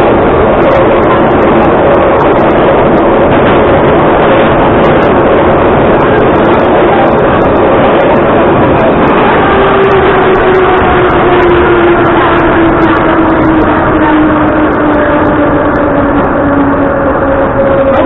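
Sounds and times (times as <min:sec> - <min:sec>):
train motor whine: 0:00.0 - 0:18.0
train running and wheel noise: 0:00.0 - 0:18.0.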